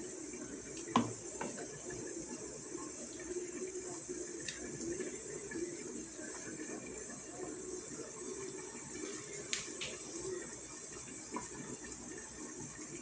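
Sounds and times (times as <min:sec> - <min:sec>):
stew bubbling: 0:00.0 - 0:13.0.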